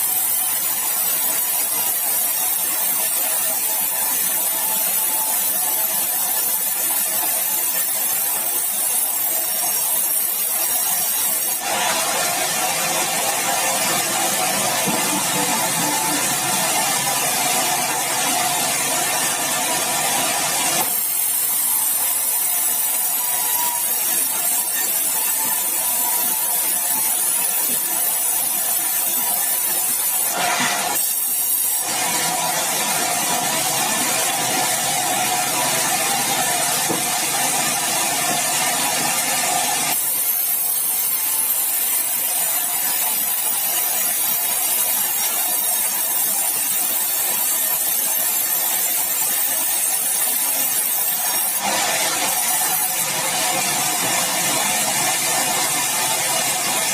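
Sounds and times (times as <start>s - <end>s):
saw cutting through log: 0.0s - 56.9s.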